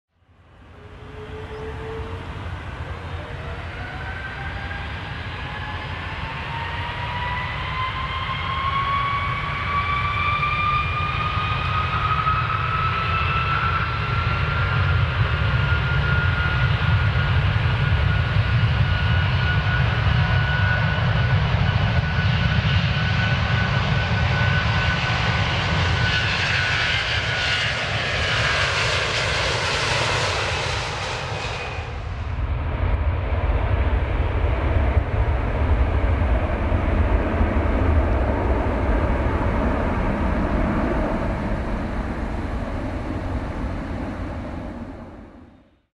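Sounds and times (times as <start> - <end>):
airplane engines at takeoff: 0.1 - 45.9.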